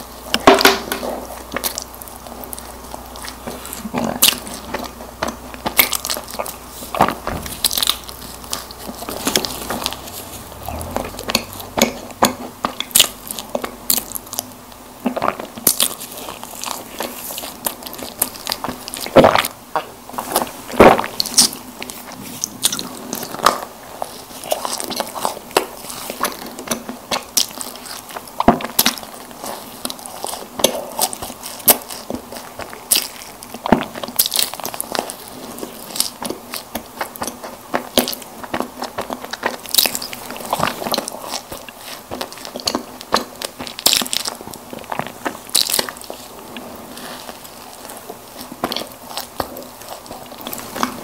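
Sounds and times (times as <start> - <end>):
biting and chewing snack cakes: 0.0 - 51.0.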